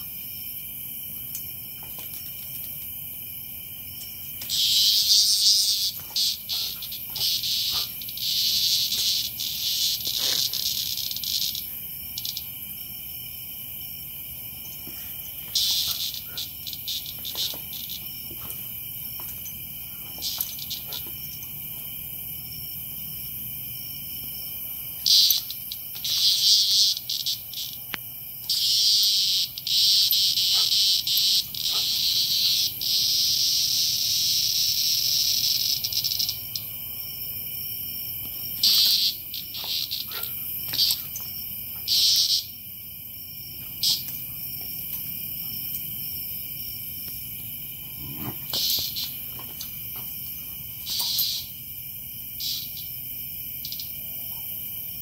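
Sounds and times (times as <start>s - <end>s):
cicada buzzing: 0.0s - 54.1s
chorus of night insects: 0.0s - 55.0s.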